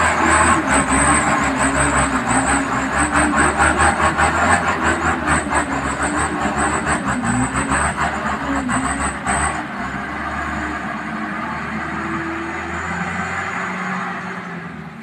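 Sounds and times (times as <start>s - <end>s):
road and rolling noise: 0.0s - 15.0s
vehicle engine running: 0.0s - 15.0s.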